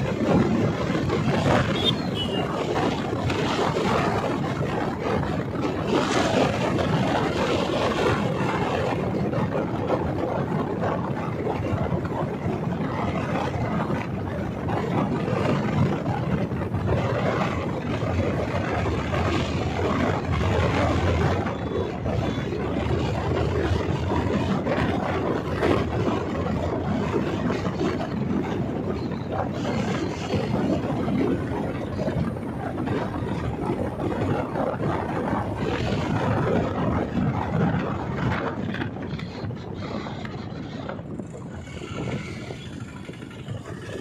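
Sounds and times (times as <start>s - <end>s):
wind rush on microphone: 0.0s - 44.0s.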